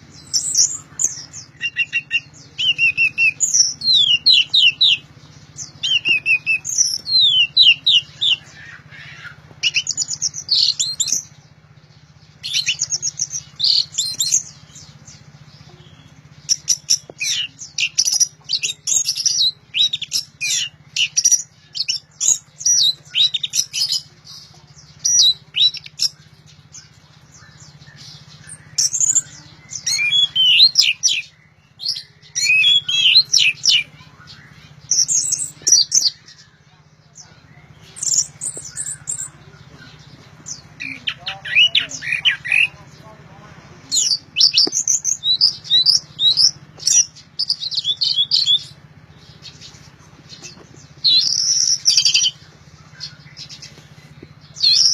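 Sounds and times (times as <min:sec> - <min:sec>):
faint low hum: 0:00.0 - 0:54.9
thrush singing chirps and trills: 0:00.0 - 0:54.9.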